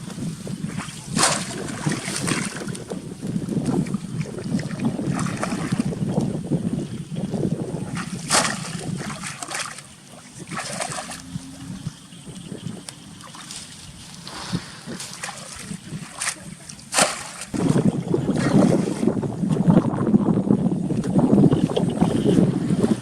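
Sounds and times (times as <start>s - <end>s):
water splashing: 0.0s - 20.0s
wind rumble on microphone: 0.0s - 23.0s.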